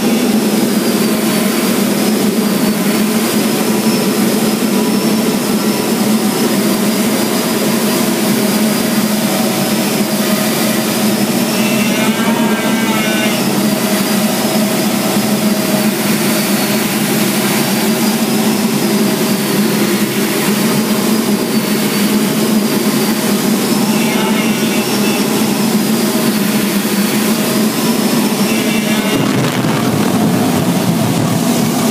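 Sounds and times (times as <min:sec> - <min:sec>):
jet engine drone and whine: 0:00.0 - 0:31.9.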